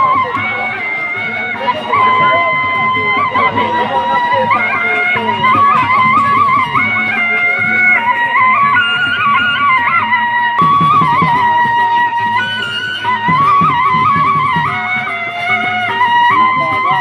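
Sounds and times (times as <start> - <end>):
drums and percussion beat: 0.0 - 17.0
wind instrument melody: 0.0 - 17.0.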